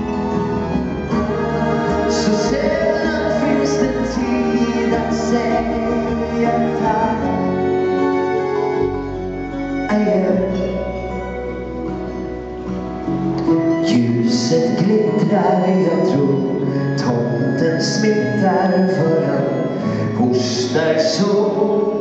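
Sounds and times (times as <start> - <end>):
person singing: 0.0 - 12.1, 13.4 - 22.0
live band music: 0.0 - 22.0.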